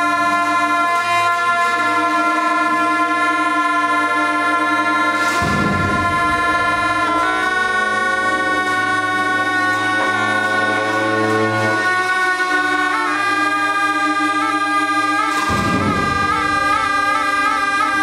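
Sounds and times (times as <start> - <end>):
shawms playing sustained notes: 0.0 - 18.0.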